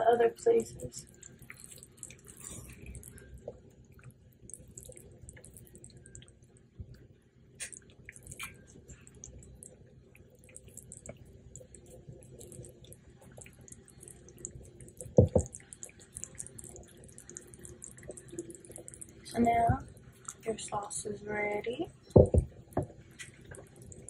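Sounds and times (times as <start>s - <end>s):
sauce simmering with crackles: 0.6s - 21.0s, 22.0s - 24.0s.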